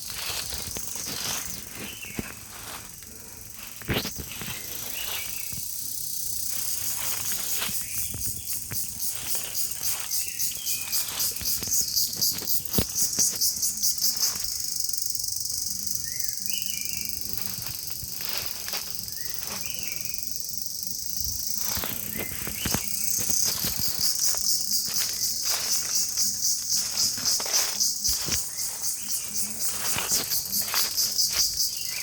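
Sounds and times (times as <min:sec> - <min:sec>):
pulsing insect chorus: 0:00.0 - 0:32.0.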